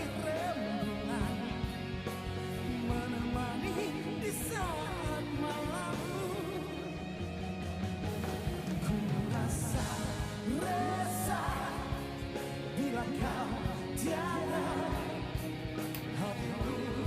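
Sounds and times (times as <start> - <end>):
man singing: 0.0 - 7.3, 8.7 - 17.0
rock band music: 0.0 - 17.0.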